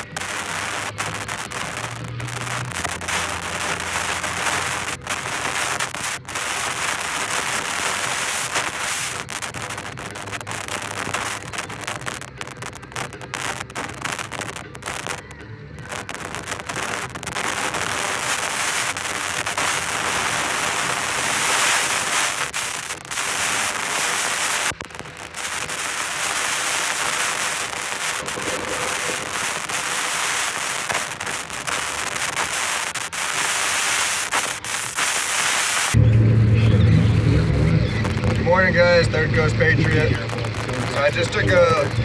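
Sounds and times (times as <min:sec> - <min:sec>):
low steady vehicle sound: 0:00.0 - 0:32.3, 0:36.0 - 0:42.0.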